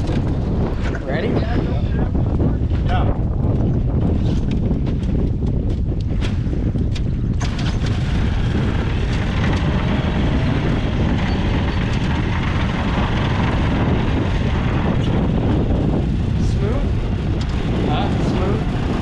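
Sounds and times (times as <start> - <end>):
outboard motor running: 3.6 - 19.0.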